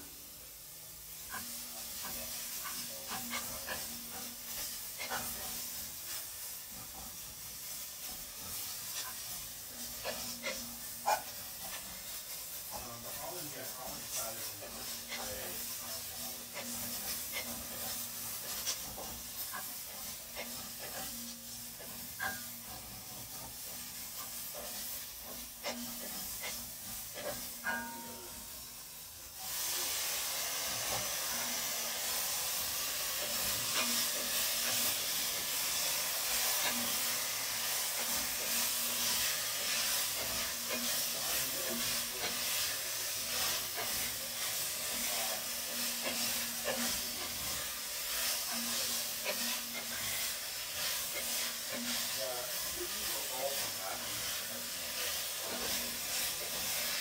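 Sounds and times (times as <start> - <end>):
loud sizzling hiss: 0.0 - 57.0
onion and garlic sizzling: 0.0 - 57.0.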